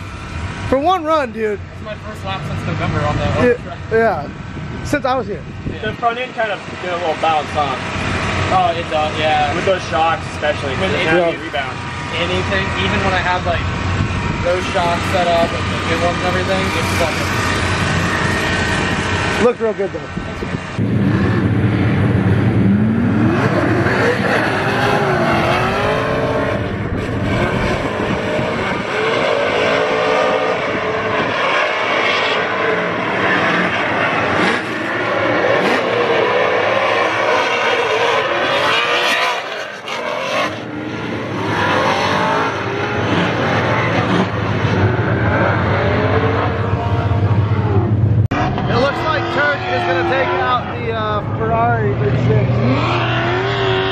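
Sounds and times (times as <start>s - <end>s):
drift car engines revving: 0.0s - 53.9s.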